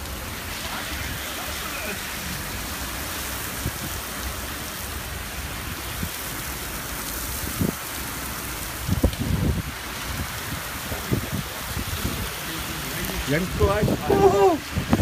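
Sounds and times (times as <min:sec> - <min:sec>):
torrential rain pouring: 0:00.0 - 0:15.0.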